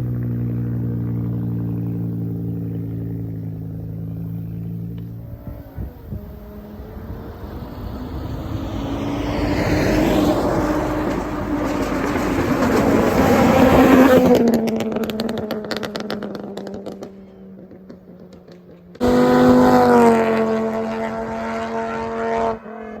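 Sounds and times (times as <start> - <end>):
exhaust crackles and pops: 0.0 - 20.5
car engine accelerating: 0.0 - 23.0.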